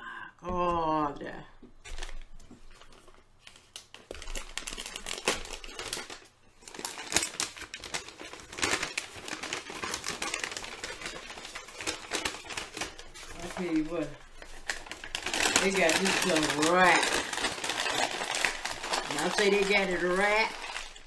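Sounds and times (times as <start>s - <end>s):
paper bag crinkling: 1.8s - 21.0s.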